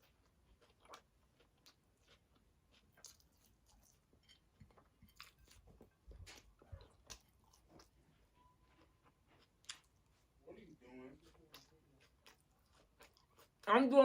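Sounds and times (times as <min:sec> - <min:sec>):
faint chewing of food: 0:00.0 - 0:13.8.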